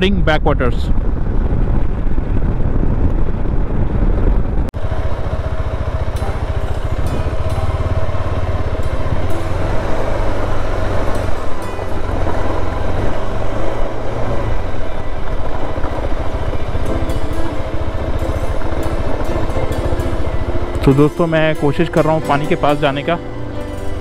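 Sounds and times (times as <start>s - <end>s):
motorcycle engine running: 0.9s - 24.0s.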